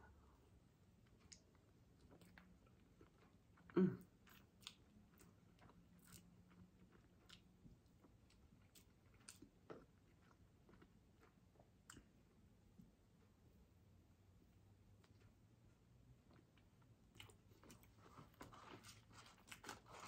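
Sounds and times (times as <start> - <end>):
faint chewing with crunches: 0.1 - 20.0.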